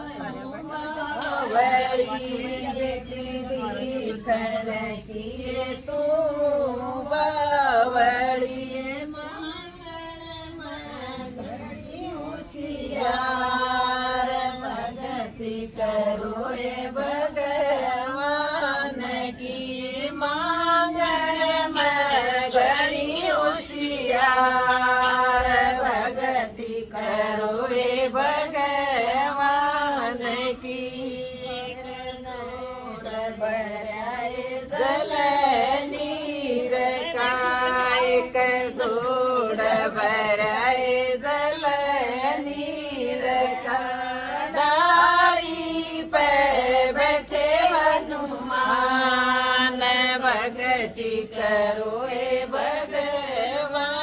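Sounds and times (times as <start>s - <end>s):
woman singing chant-like folk song: 0.0s - 54.0s.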